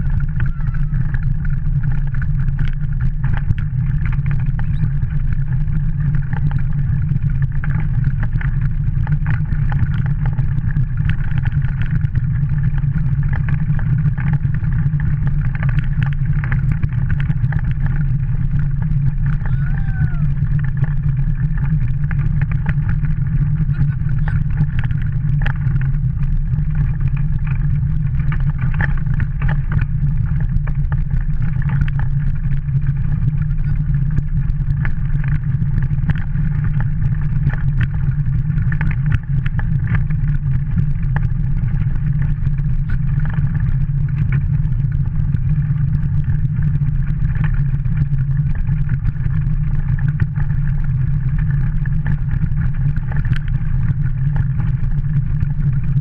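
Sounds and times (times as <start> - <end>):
kart wheels rumbling: 0.0 - 56.0.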